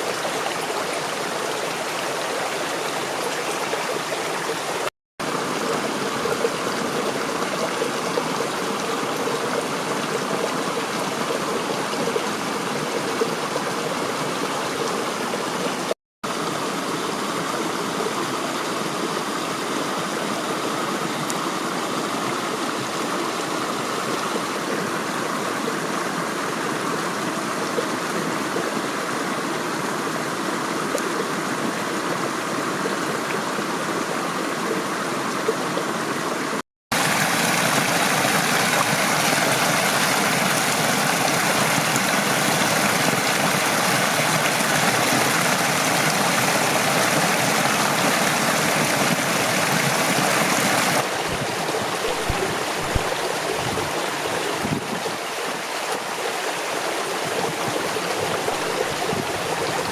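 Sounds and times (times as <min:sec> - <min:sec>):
mountain stream running: 0:00.0 - 0:59.9.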